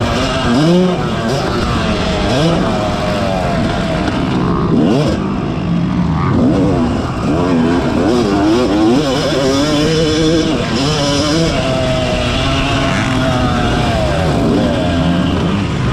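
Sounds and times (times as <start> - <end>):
motocross bike engine revving: 0.0 - 15.9
other motocross bike engines: 0.0 - 15.9.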